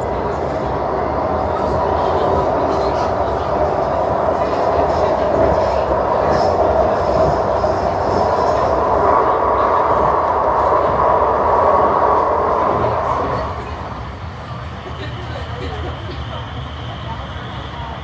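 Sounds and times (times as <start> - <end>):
tram rumble and motor whine: 0.0 - 18.0.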